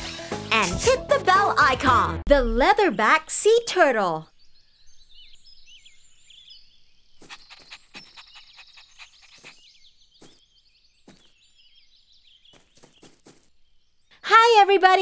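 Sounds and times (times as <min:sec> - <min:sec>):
small birds chirping: 0:02.7 - 0:15.0.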